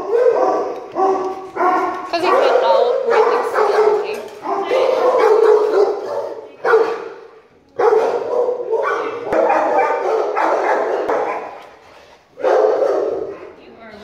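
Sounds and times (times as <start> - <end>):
dogs barking: 0.0 - 13.7.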